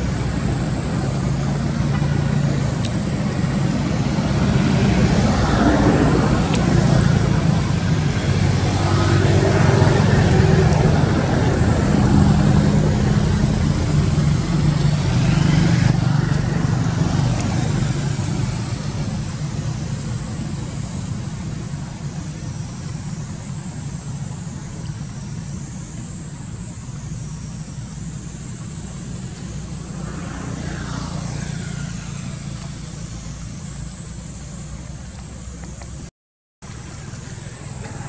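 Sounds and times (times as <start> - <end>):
low engine-like rumble: 0.0 - 38.0.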